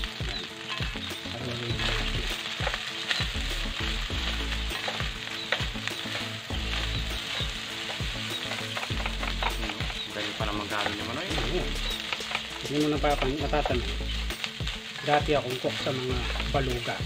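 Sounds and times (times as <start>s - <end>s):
rice sizzling in hot oil: 0.0s - 17.0s.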